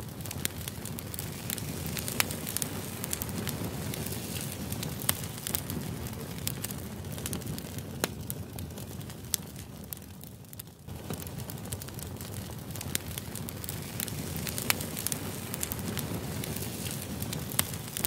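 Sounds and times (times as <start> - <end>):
low rush of flame: 0.0 - 18.0
wood fire crackling and popping: 0.0 - 18.0.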